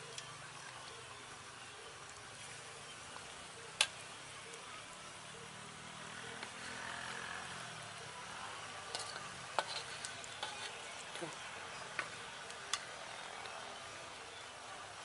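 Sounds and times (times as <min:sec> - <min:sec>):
food sizzling in hot oil: 0:00.2 - 0:13.0.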